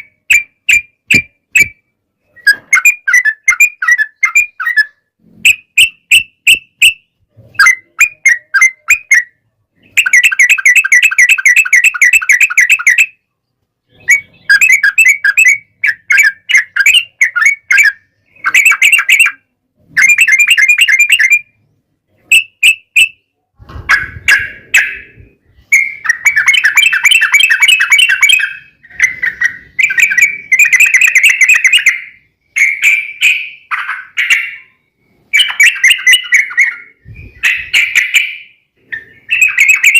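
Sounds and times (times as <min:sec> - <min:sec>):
birds singing chattering phrases: 0:00.0 - 0:39.9.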